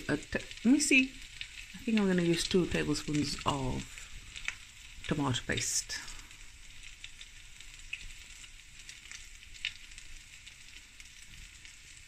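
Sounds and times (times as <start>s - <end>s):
fat sizzling in a pan: 0.0s - 12.0s.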